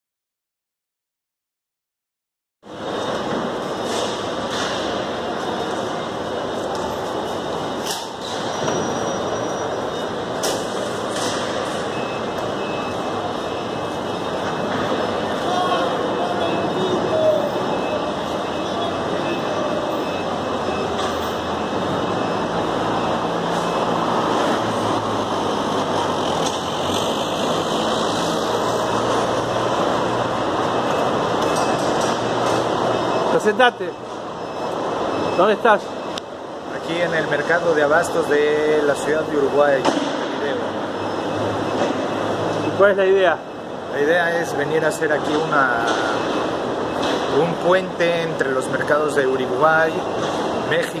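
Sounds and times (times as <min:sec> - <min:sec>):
busy market hall din: 0:02.6 - 0:51.0
low hum of vehicle engines: 0:02.6 - 0:51.0.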